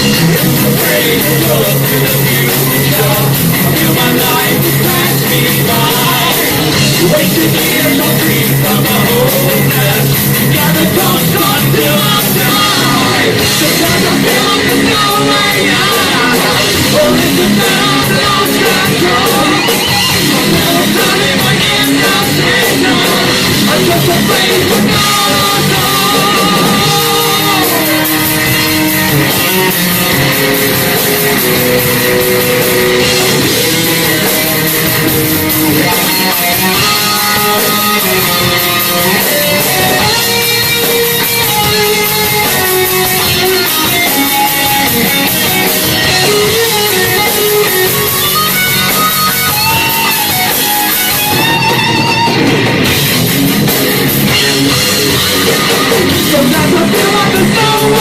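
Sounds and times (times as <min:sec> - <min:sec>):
heavy metal band playing: 0:00.0 - 0:58.0
melodic guitar line: 0:00.0 - 0:58.0.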